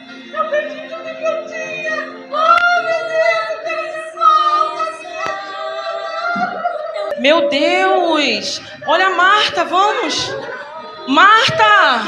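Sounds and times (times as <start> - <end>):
music: 0.0 - 12.0
woman singing high held notes: 0.3 - 12.0.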